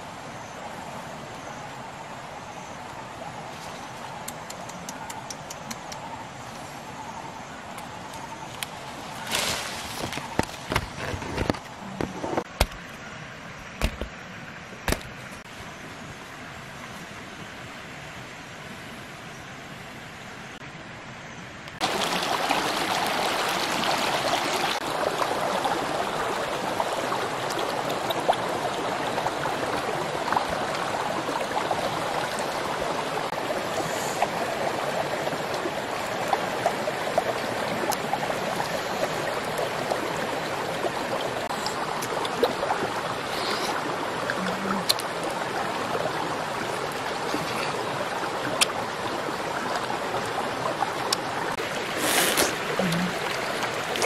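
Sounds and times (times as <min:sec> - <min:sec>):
stream water rushing: 0:00.0 - 0:21.0, 0:21.8 - 0:54.0.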